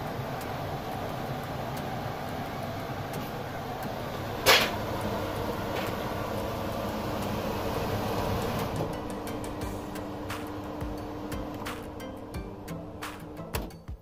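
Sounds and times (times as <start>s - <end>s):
extractor fan whirring: 0.0s - 14.0s.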